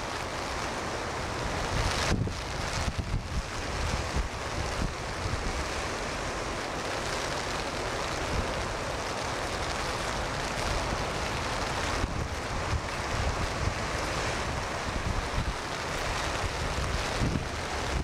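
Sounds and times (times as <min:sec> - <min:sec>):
wind buffeting microphone: 0:00.0 - 0:05.9, 0:08.0 - 0:18.0
heavy surf breaking: 0:00.0 - 0:18.0
rain: 0:00.0 - 0:18.0.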